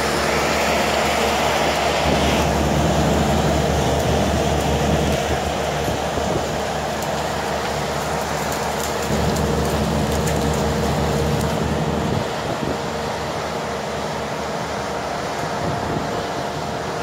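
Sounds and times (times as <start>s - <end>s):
bulldozer diesel engine under load: 0.0s - 17.0s.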